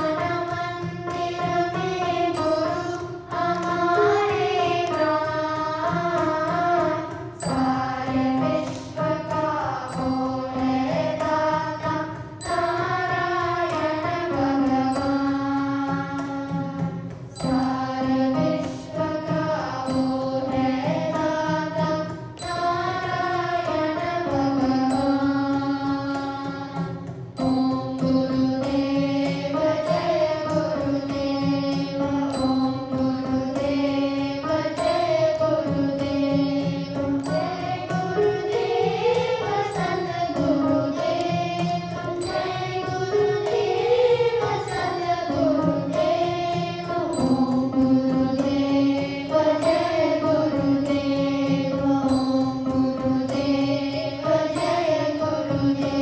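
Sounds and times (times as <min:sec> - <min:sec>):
children singing in unison: 0:00.0 - 0:56.0
instrumental accompaniment: 0:00.0 - 0:56.0.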